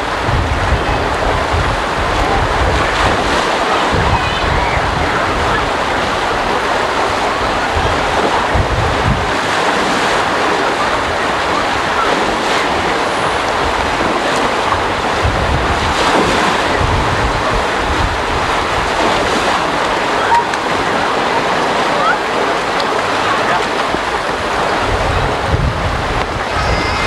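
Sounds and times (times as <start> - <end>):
water rushing into pool: 0.0 - 27.0
wind buffeting microphone: 0.0 - 27.0.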